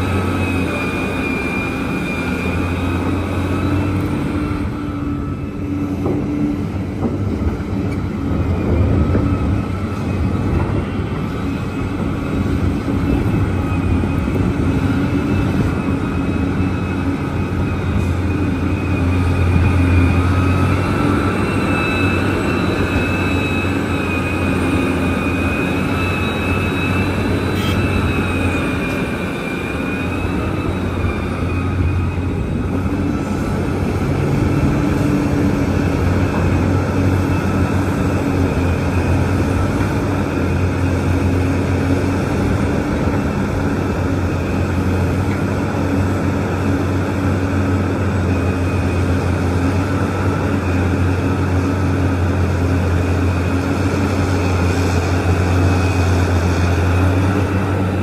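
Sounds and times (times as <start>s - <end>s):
deep diesel engine drone: 0.0s - 58.0s
high wavering whine: 0.0s - 58.0s.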